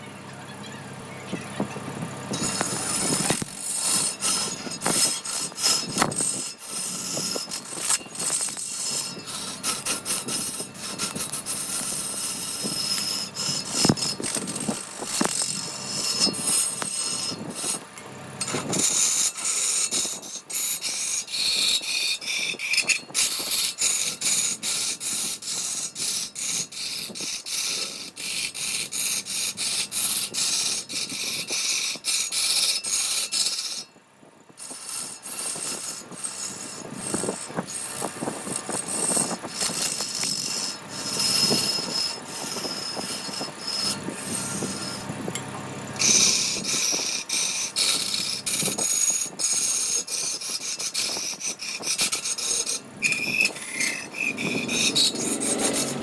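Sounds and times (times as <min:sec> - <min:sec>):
rasp scraping on wood: 0:02.3 - 0:33.9, 0:34.6 - 0:56.0.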